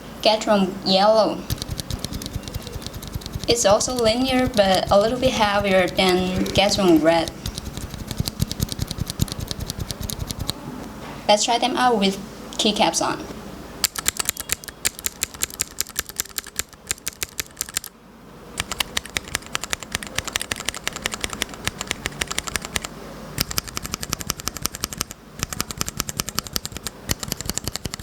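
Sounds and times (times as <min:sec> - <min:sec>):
fast mechanical keyboard typing: 0:01.5 - 0:10.6, 0:13.8 - 0:17.9, 0:18.6 - 0:28.0.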